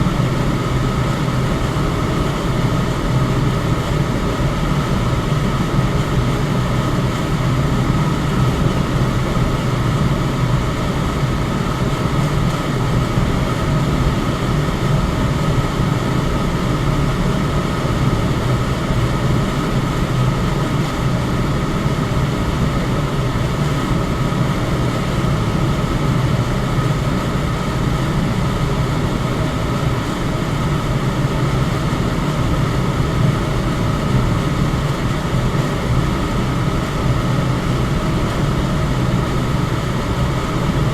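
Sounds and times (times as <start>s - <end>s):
electric fan running: 0.0s - 40.9s.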